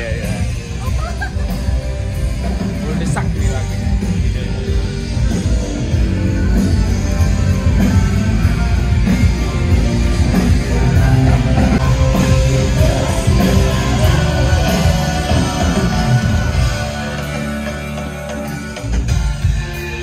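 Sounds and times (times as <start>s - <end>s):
bass guitar: 0.0s - 20.0s
drums: 0.0s - 20.0s
electric guitar: 0.0s - 20.0s.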